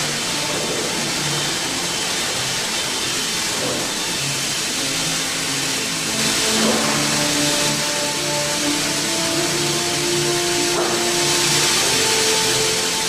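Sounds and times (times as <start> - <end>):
band sawmill running: 0.0 - 13.0.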